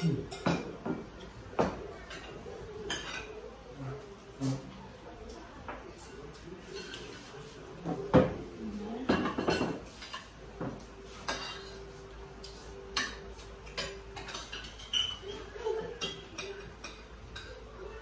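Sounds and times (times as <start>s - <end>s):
cutlery clinking on plates: 0.0s - 3.5s, 6.0s - 17.8s.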